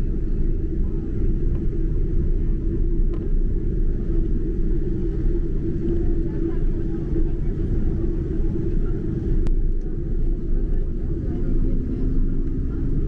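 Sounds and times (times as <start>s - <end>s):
airplane cabin rumble: 0.0s - 13.0s
steady hum: 0.0s - 13.0s.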